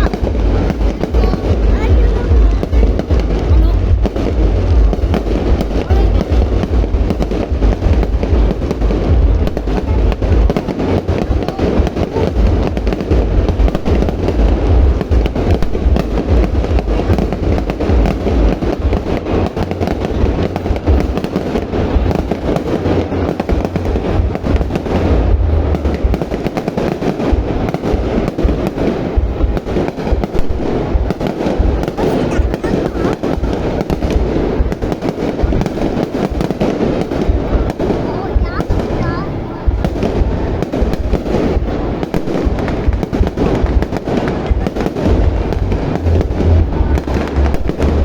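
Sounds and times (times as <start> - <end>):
fireworks bangs and crackles: 0.0 - 48.0
low fireworks booming: 0.0 - 48.0.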